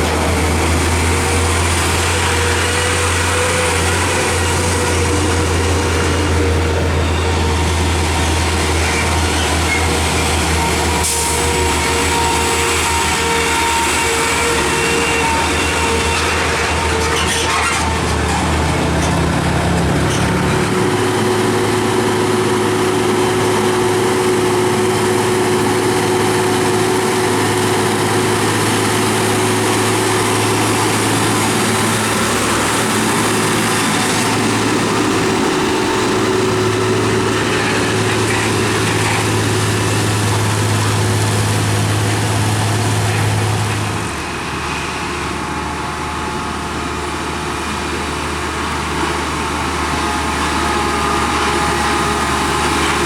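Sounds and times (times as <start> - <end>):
diesel truck engines running: 0.0 - 53.0
road noise: 0.0 - 53.0.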